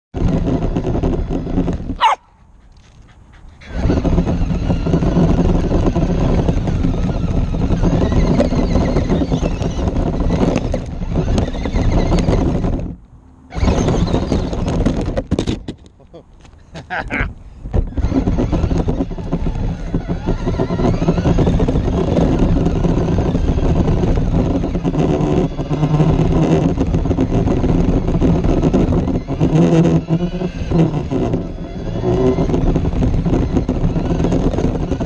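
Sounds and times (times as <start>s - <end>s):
rc truck tyres rattling on gravel: 0.1s - 35.0s.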